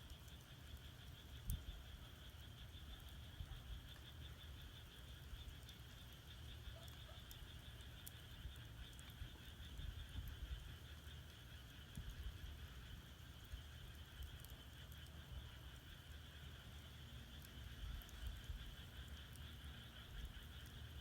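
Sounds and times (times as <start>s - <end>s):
firewood burning with crackles: 0.0s - 21.0s
frogs trilling: 0.0s - 21.0s.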